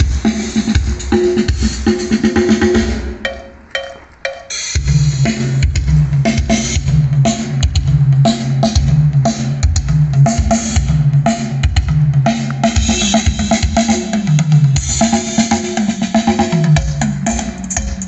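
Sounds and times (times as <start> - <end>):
bass-heavy music through speakers: 0.0 - 18.0.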